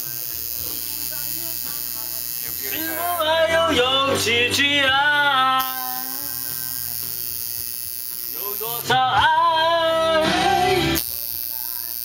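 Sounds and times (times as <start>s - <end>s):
person singing: 0.0s - 7.2s, 8.3s - 12.0s
pop ballad playing: 0.0s - 7.2s, 8.3s - 11.9s
tattoo machine buzzing: 0.0s - 12.0s.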